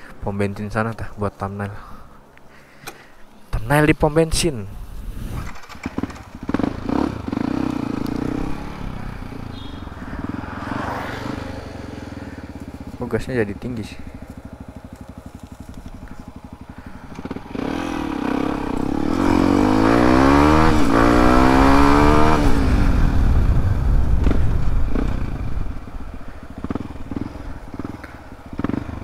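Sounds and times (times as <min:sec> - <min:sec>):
motorcycle engine revving: 0:05.1 - 0:29.0.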